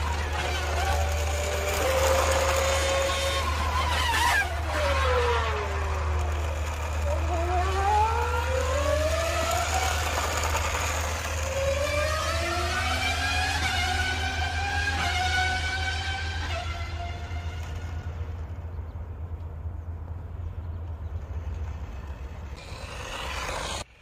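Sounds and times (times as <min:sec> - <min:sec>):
motor whine: 0:00.0 - 0:18.7, 0:21.2 - 0:24.0.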